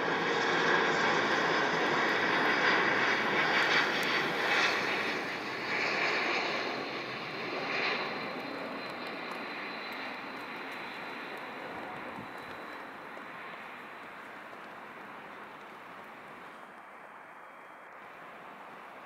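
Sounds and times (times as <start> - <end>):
airliner jet engine rush: 0.0 - 19.0.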